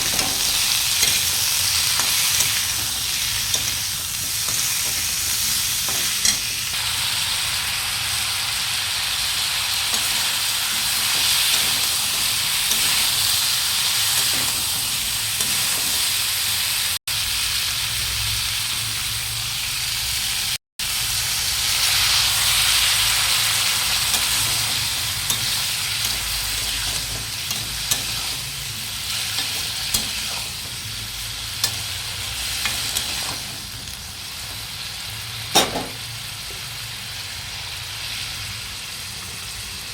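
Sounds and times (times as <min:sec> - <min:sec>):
chutney sizzling in a pan: 0:00.0 - 0:39.9.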